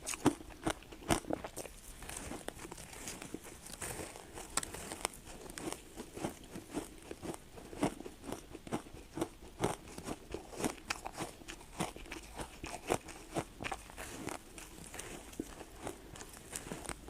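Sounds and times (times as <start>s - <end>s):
ice crunching being chewed: 0.0s - 17.0s.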